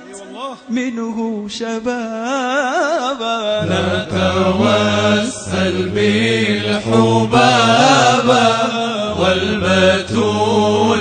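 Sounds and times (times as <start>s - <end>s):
person singing devotional song: 0.0s - 11.0s.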